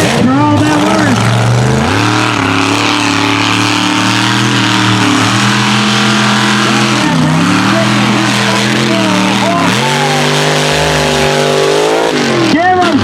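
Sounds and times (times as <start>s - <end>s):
truck engine running loud: 0.0s - 13.0s.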